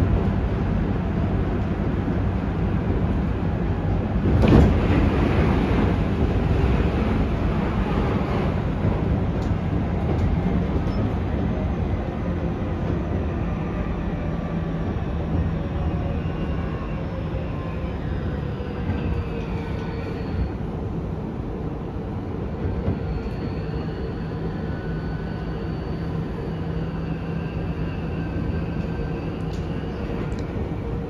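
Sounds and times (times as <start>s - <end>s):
train wheel and rail rumble: 0.0s - 31.0s.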